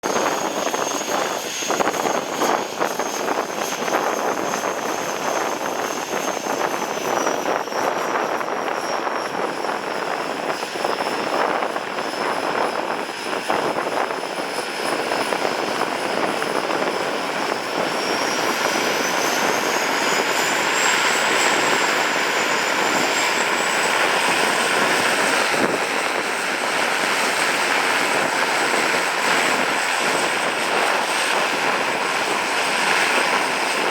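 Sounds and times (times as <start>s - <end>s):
propeller engines running: 0.0s - 33.9s.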